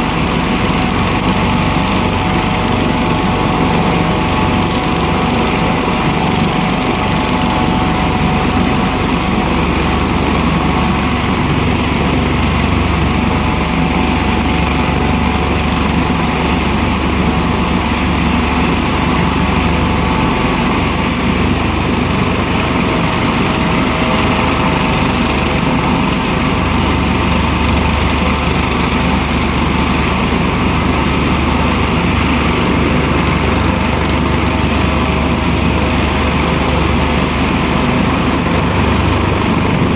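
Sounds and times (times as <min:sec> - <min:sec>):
helicopter turbine and rotor: 0:00.0 - 0:39.9
high turbine whine: 0:00.0 - 0:39.9.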